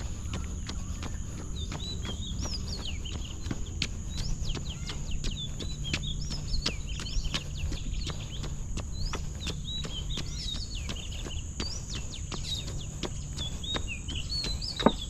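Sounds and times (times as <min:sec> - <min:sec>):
birds singing whistled phrases: 0:00.0 - 0:15.0
running footsteps: 0:00.0 - 0:15.0.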